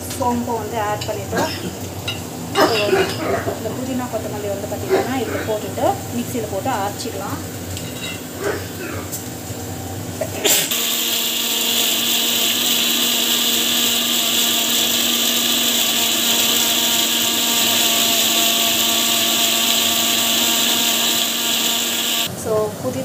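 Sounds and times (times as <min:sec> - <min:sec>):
mixer grinder running: 0:01.7 - 0:22.3.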